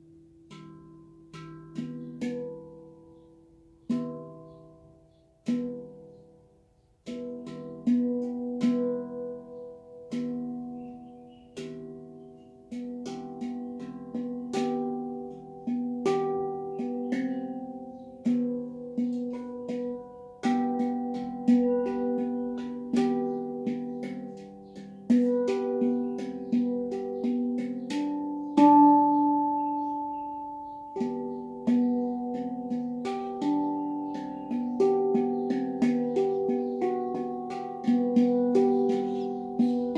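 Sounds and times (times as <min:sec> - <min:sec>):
handpan melody: 0:00.0 - 0:39.9.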